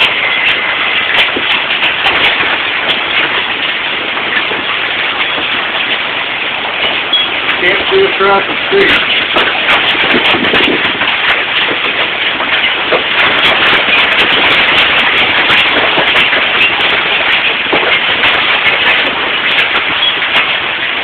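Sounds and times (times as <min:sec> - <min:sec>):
hailstones clattering: 0:00.0 - 0:21.0
heavy rain: 0:00.0 - 0:21.0.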